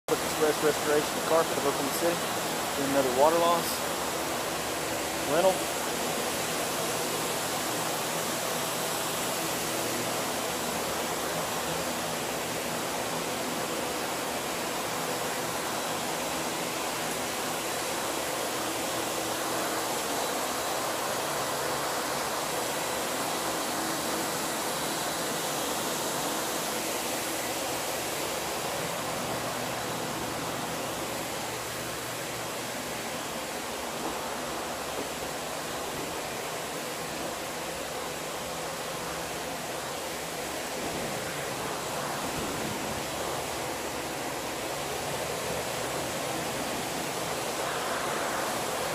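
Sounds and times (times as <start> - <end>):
rushing fan air: 0.1 - 48.9.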